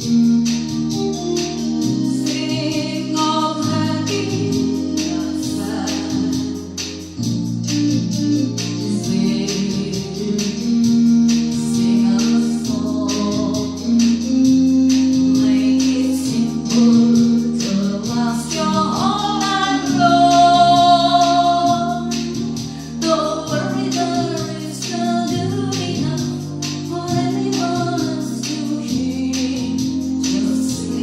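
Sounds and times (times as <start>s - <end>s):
keyboard backing with drum beat: 0.0s - 31.0s
women singing: 2.0s - 6.8s, 8.4s - 31.0s.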